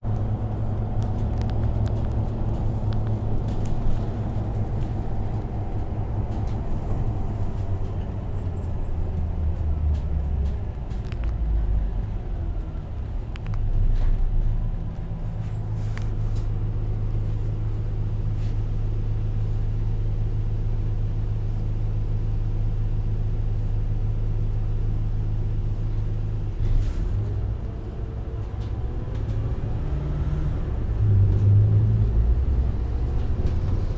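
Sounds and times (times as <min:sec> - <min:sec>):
diesel engine rumbling: 0:00.0 - 0:33.9.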